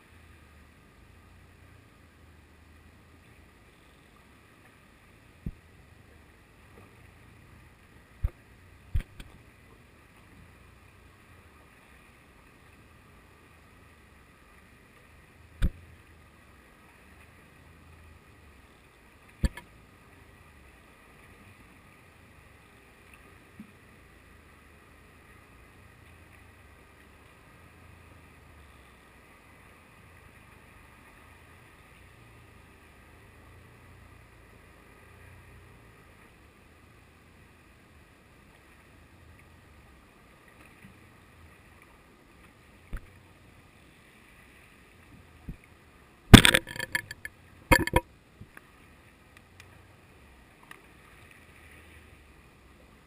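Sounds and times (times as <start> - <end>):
muffled underwater hum and hiss: 0.0 - 46.2, 47.4 - 53.0.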